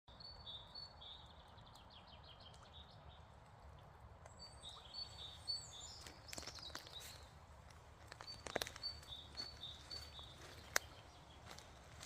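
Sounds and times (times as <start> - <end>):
low steady background noise: 0.1 - 12.0
small birds chirping: 0.1 - 12.0.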